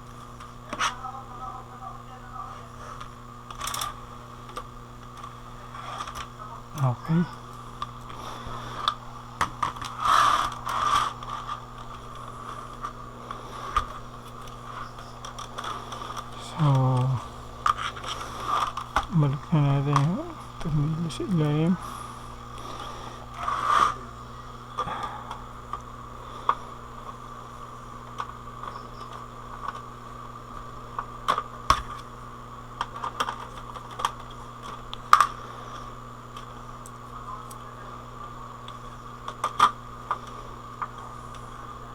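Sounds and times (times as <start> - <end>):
steady low hum: 0.0 - 41.9
scraping and handling noise: 2.6 - 37.0.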